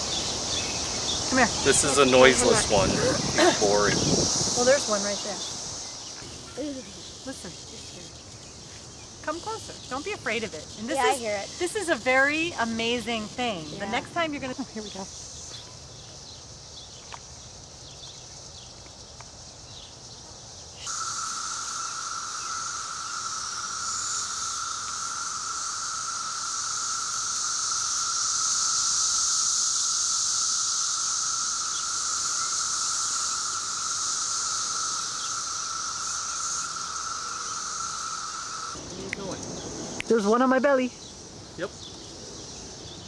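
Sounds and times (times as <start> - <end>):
cicadas buzzing drone: 0.0 - 43.0.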